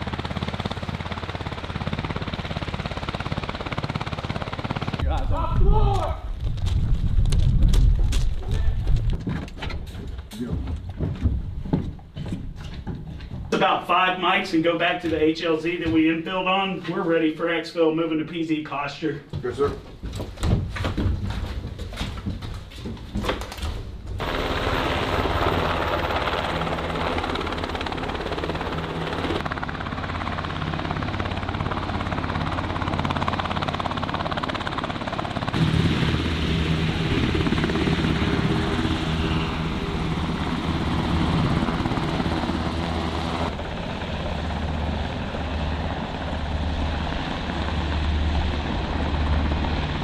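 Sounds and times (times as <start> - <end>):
helicopter rotors and engines: 0.0 - 18.9, 23.5 - 50.0.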